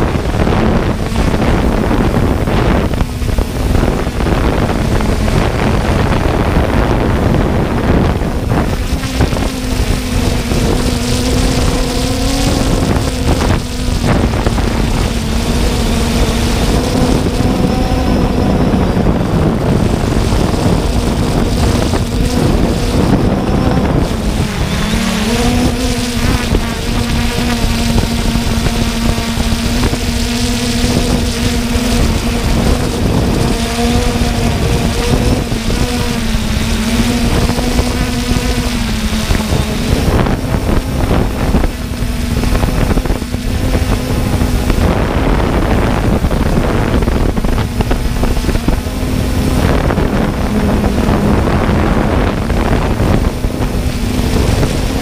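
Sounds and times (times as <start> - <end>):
drone motors humming: 0.0 - 55.0
wind buffeting microphone: 0.0 - 55.0.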